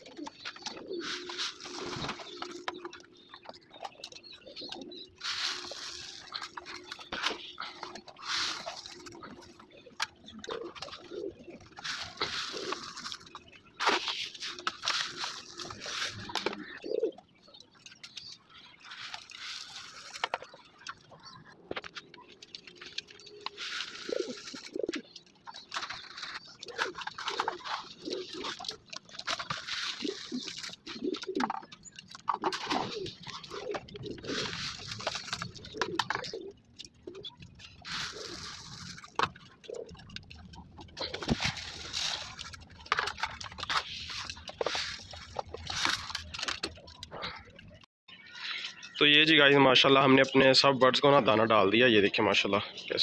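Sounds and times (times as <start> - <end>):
pigeons cooing: 0.0 - 47.8
clicks and rustling: 0.0 - 47.9
grain rattling into cups: 0.2 - 21.4, 22.2 - 47.7.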